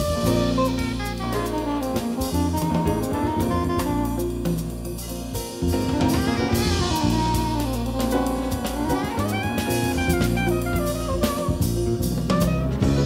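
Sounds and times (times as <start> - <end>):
soprano saxophone melody: 0.0 - 4.8, 5.8 - 13.0
drum kit: 0.0 - 13.0
electric bass: 0.0 - 13.0.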